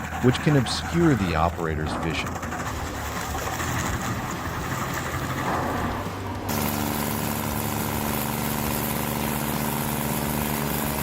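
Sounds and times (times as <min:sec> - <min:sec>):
stump grinder engine running: 0:00.0 - 0:11.0.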